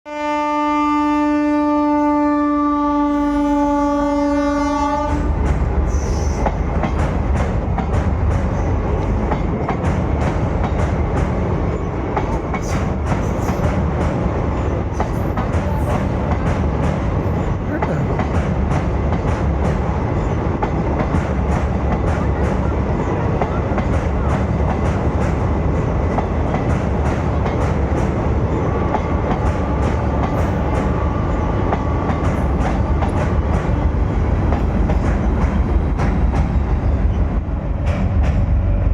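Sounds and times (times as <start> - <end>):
train rumbling over bridge: 0.1 - 38.9.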